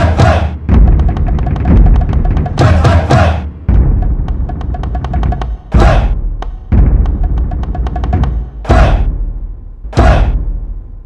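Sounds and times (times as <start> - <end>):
percussion music: 0.0 - 10.7.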